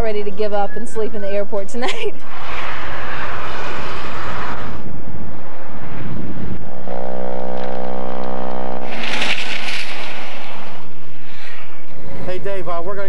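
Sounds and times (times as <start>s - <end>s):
traffic noise: 0.0s - 13.0s
steady pitched tone: 2.1s - 13.0s.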